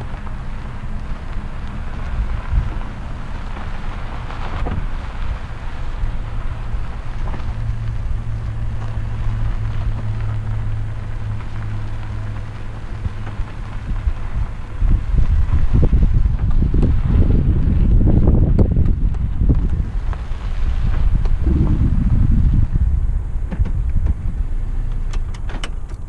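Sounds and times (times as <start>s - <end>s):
low vehicle hum: 0.0s - 26.0s
wind buffeting microphone: 0.0s - 26.0s.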